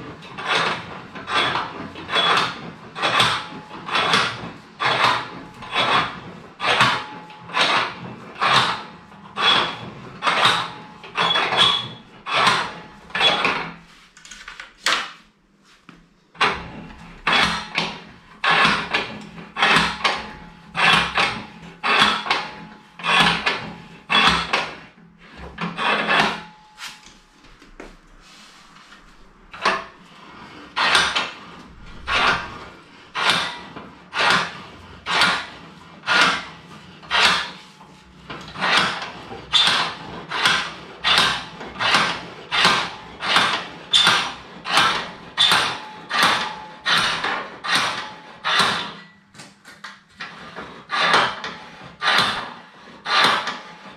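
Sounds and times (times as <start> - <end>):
cord rasping on loom: 0.2 - 14.5, 16.4 - 27.2, 28.2 - 49.0, 50.2 - 53.9.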